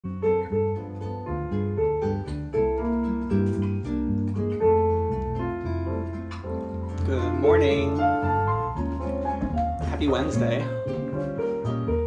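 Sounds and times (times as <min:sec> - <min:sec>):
held bass line: 0:00.0 - 0:12.0
piano: 0:00.0 - 0:12.0
plucked guitar-like notes: 0:00.1 - 0:12.0.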